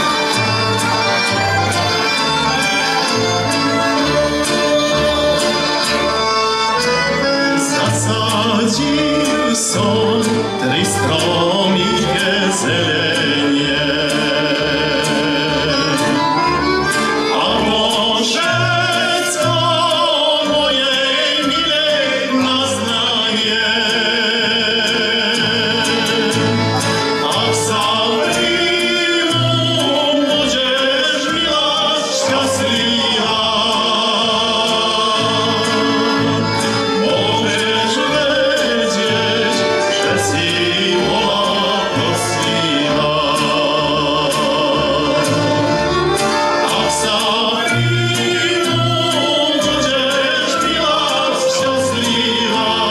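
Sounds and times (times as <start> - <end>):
folk band playing: 0.0 - 52.9
man singing folk song: 0.0 - 52.9.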